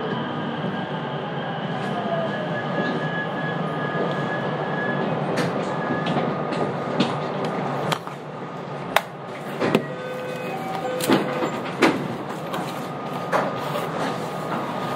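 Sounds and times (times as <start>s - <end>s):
train interior rumble: 0.0s - 14.9s.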